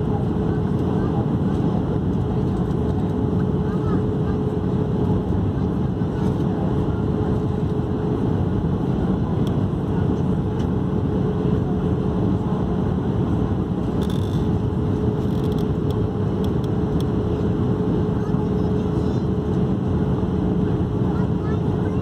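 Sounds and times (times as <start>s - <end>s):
engine and airflow roar: 0.0s - 22.0s.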